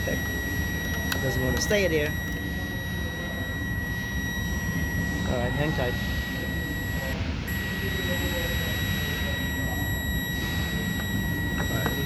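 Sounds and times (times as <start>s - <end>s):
high-pitched electronic buzzer: 0.0s - 12.0s.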